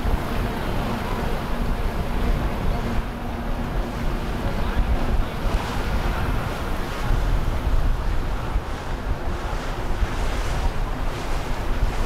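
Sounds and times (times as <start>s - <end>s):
bow wash rushing: 0.0s - 12.0s
wind buffeting microphone: 0.0s - 12.0s.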